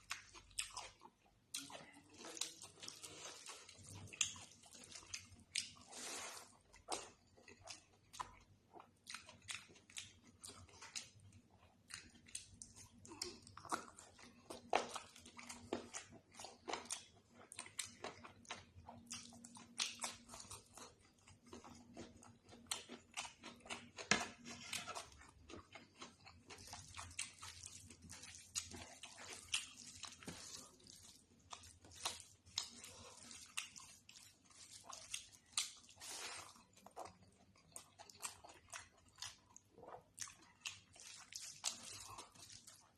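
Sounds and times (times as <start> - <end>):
person chewing and biting food: 0.0 - 42.9.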